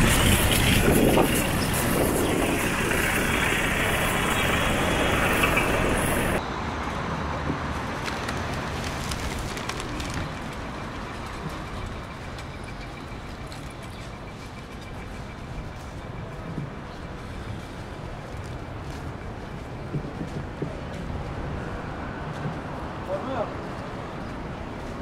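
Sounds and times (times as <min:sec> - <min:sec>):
quiet street sound: 0:00.0 - 0:25.0
traffic noise: 0:00.0 - 0:25.0.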